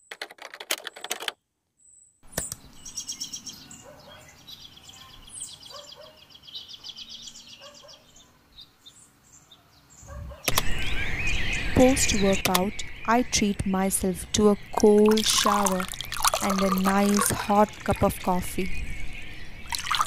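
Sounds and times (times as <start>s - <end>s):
birds trilling and chirping: 2.3s - 20.0s
lower bird calls: 2.3s - 20.0s.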